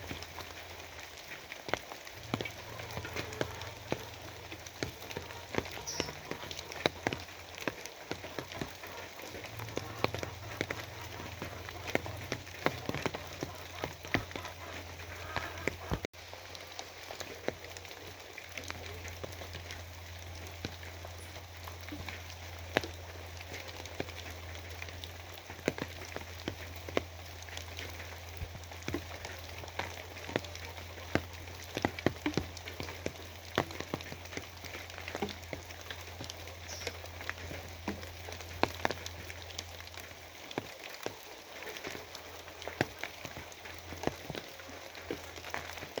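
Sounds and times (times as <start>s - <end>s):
rain drops tapping: 0.0s - 46.0s.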